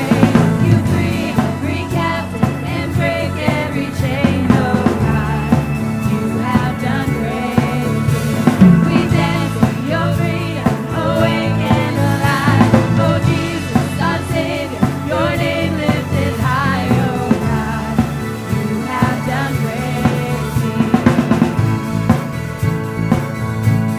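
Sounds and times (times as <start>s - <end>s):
person singing: 0.0s - 22.0s
band with drums: 0.0s - 23.9s.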